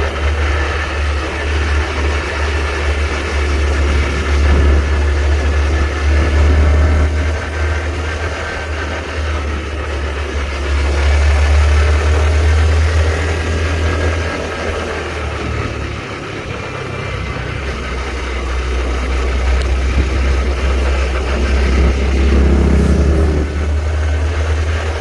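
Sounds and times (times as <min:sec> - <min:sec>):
motorcycle engine rumbling: 0:00.0 - 0:25.0.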